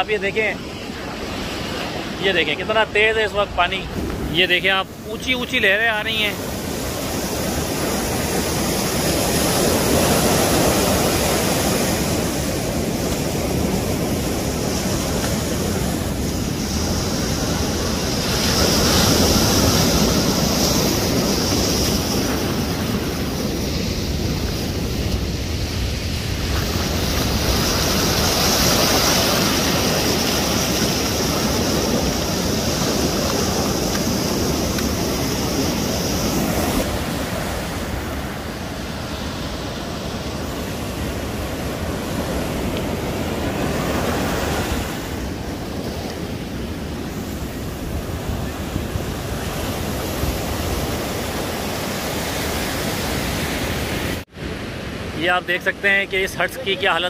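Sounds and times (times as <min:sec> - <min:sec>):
storm waves breaking on shore: 0:00.0 - 0:57.0.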